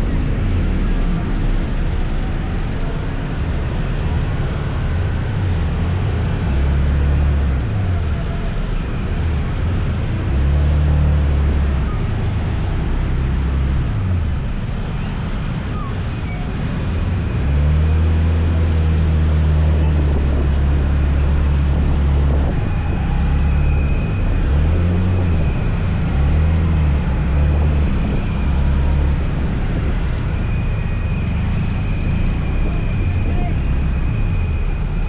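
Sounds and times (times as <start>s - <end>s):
road noise: 0.0s - 35.0s
wind buffeting microphone: 0.0s - 35.0s.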